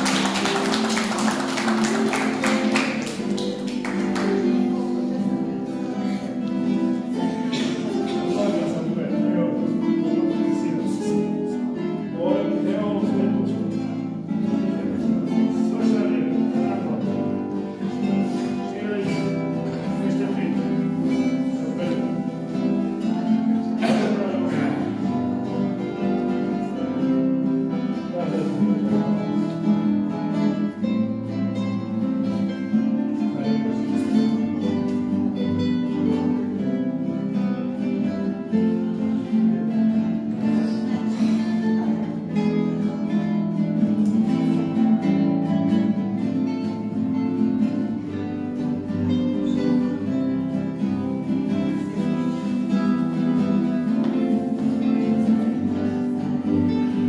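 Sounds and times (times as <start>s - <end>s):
guitar plucked and strummed: 0.0s - 57.0s.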